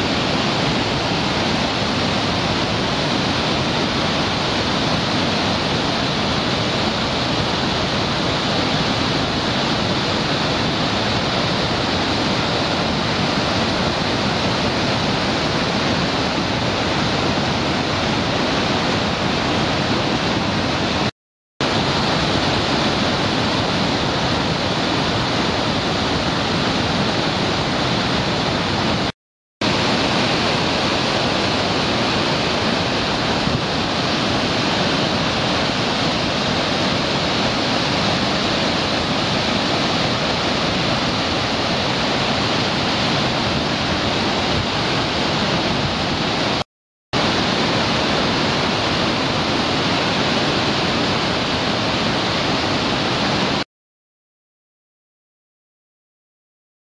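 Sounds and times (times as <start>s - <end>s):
white-water rapids: 0.0s - 46.6s, 47.2s - 53.6s
waterfall rushing: 0.0s - 53.6s.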